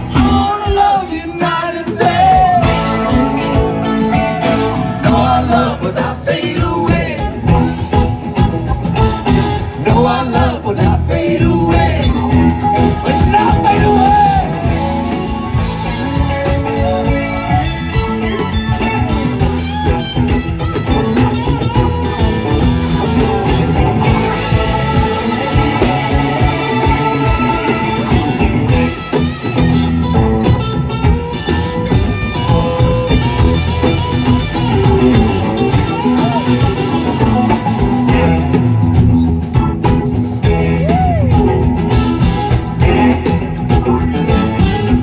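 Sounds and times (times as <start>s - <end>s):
bass guitar: 0.0s - 45.0s
electric guitar lines: 0.0s - 45.0s
steady drum beat: 0.0s - 45.0s.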